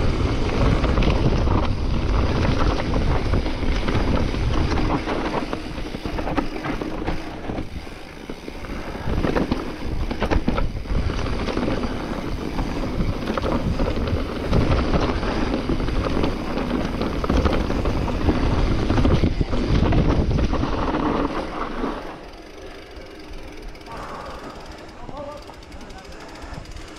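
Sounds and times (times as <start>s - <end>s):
wind buffeting microphone: 0.0s - 21.8s
bike knocks and rattles: 0.0s - 22.5s
bike tyres rolling: 0.0s - 26.9s.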